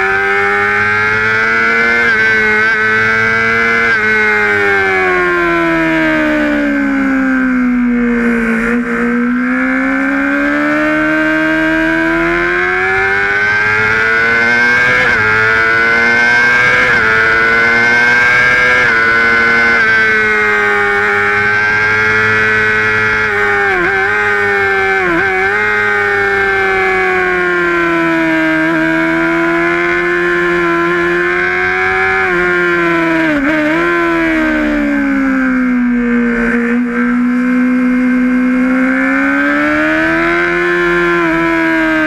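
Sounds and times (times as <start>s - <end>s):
motorcycle engine running hard: 0.0s - 42.0s.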